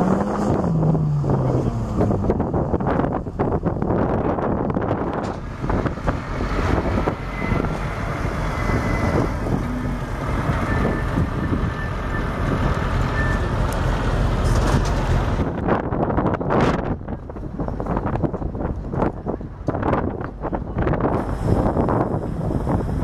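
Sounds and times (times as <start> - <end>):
diesel lorry engine rumbling: 0.0 - 23.0.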